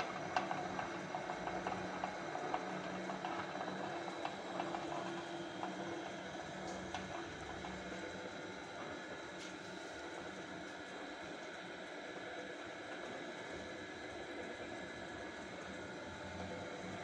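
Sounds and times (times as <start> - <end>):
dough mixer motor humming: 0.0 - 17.0.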